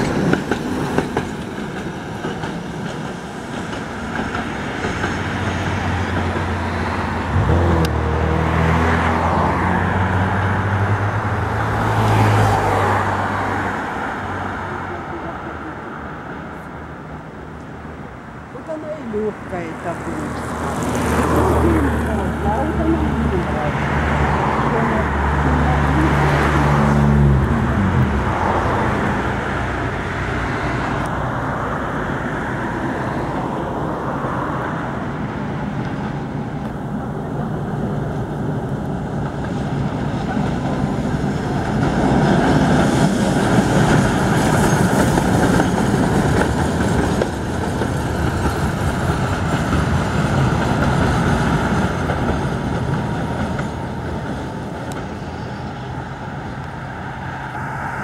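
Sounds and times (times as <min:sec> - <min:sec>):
traffic noise: 0:00.0 - 0:58.0
tram passing: 0:00.0 - 0:58.0.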